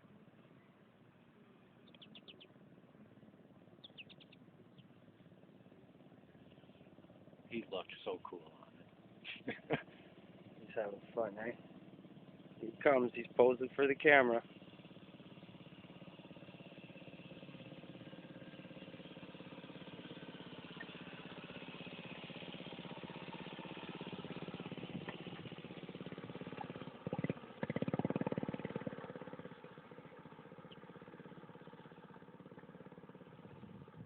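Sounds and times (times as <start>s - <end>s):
minibike engine passing by: 0.0s - 34.0s.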